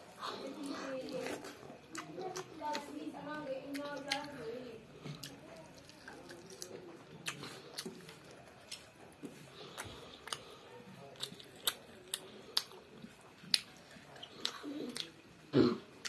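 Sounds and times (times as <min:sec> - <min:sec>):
child chewing with wet smacks: 0:00.0 - 0:16.0.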